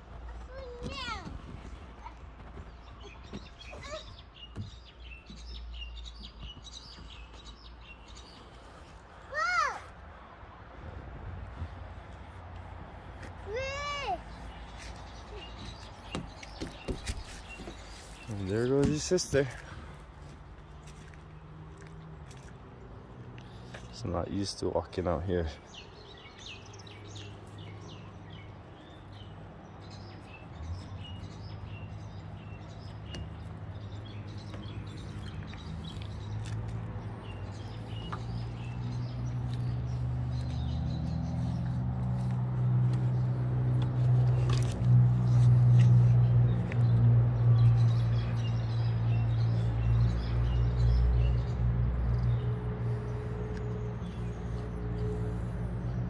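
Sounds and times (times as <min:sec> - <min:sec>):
small birds chirping: 0:00.0 - 0:10.6, 0:11.4 - 0:56.0.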